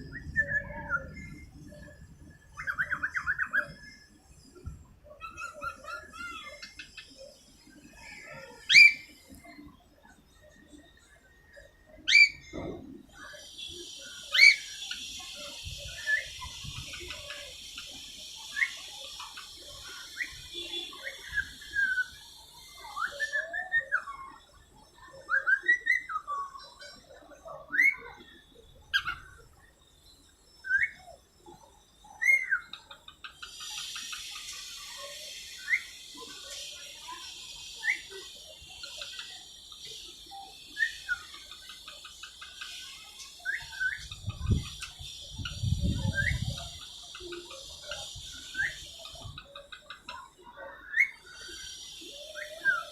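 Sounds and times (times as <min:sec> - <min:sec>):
steady high hiss: 0:00.0 - 0:52.9.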